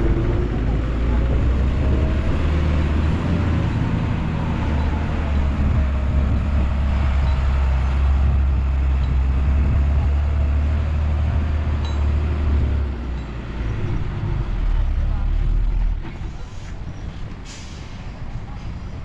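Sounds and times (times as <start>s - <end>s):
heavy diesel engine droning: 0.0s - 18.9s.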